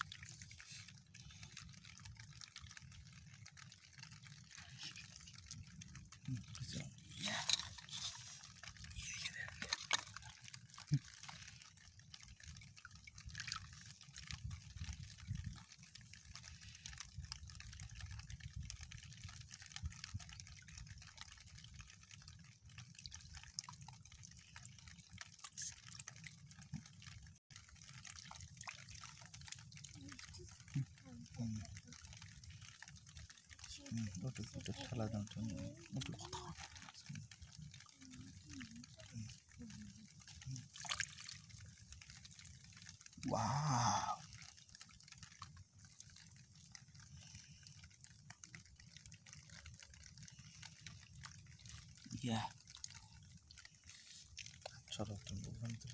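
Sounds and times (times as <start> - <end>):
water drips: 0.0 - 55.9.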